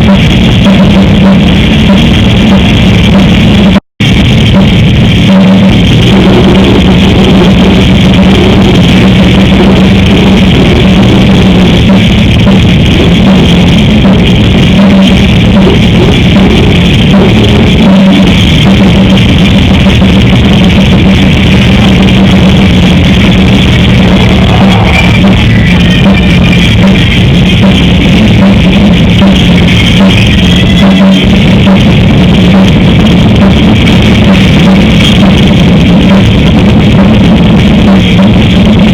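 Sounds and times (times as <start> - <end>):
live metal band playing: 0.0 - 38.9.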